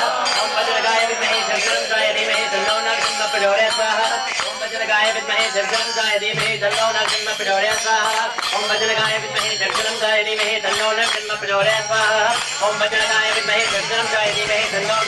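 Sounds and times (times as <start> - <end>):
group singing a devotional chant: 0.0 - 15.0
hand cymbals ringing: 0.0 - 15.0.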